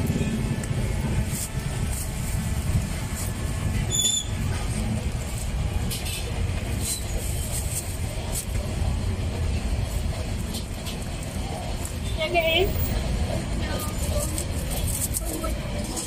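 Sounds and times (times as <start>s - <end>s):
passing traffic rumble: 0.0s - 16.0s.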